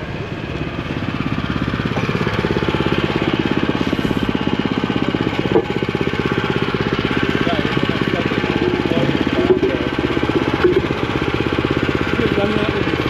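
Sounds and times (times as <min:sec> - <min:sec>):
construction machine pounding: 0:00.0 - 0:13.0.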